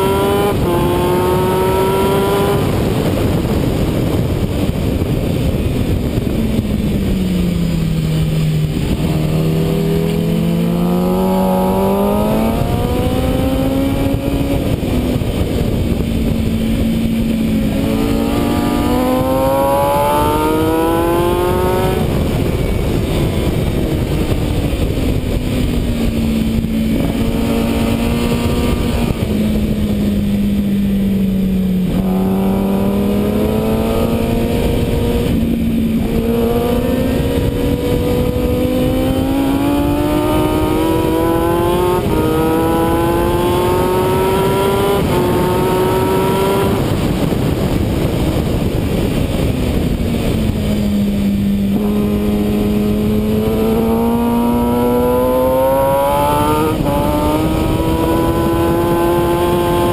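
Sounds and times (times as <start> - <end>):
heavy wind rush: 0.0 - 59.9
motorcycle engine accelerating: 0.0 - 59.9.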